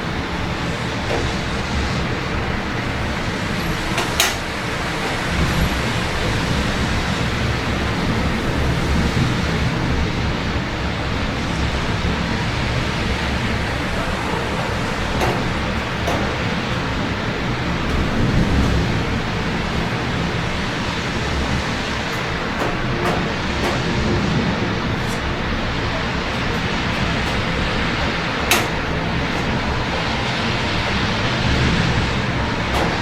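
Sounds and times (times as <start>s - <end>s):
low rumble of city traffic: 0.0s - 33.0s
steady rain falling: 0.0s - 33.0s.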